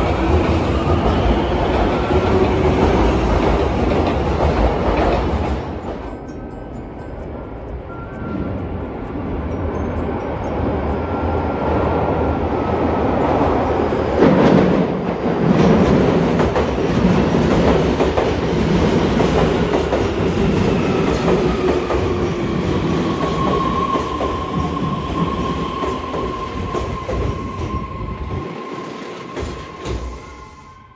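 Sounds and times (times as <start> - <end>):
train wheels clicking on rails: 0.0 - 30.7
steady train whine: 0.0 - 30.9.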